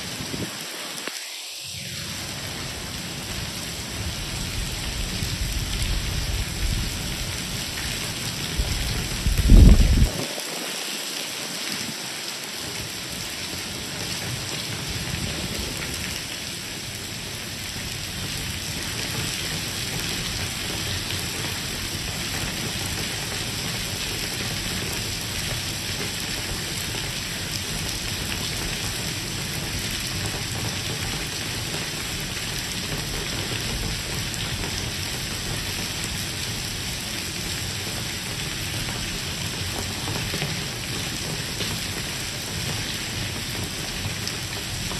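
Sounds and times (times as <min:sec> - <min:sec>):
heavy rain on stone paving: 0:00.0 - 0:44.9.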